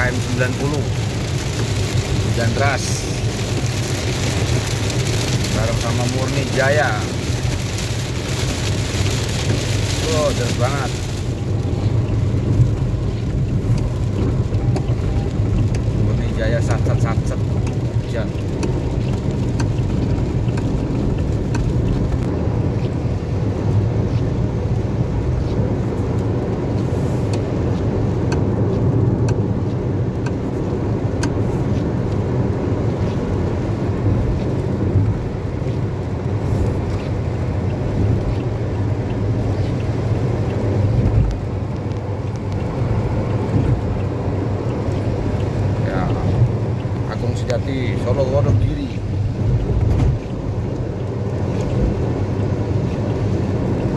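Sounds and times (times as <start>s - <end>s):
tyre and engine rumble: 0.0s - 53.9s.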